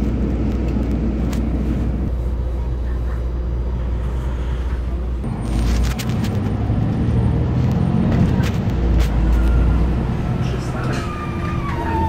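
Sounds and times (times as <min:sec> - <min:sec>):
bus engine and road rumble: 0:00.0 - 0:12.0
bus interior rattles and clicks: 0:00.0 - 0:12.0.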